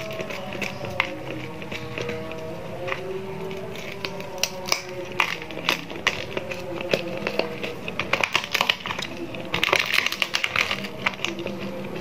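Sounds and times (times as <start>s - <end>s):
crunchy snack being crushed: 0.0s - 12.0s.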